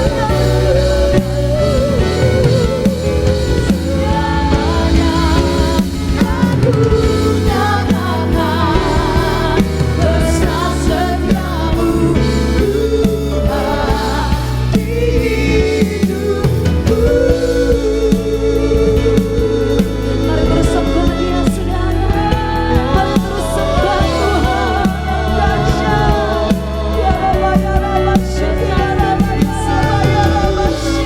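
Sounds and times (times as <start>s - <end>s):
live band with drums and bass: 0.0s - 31.0s
singers singing slow song: 0.0s - 31.0s.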